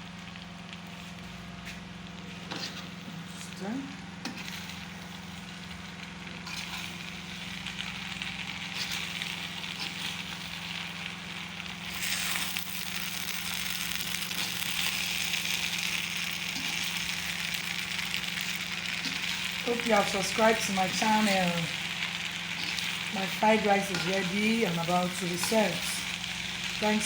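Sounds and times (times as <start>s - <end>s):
rice sizzling in a hot pan: 0.0s - 27.0s
steady low hum: 0.0s - 27.0s.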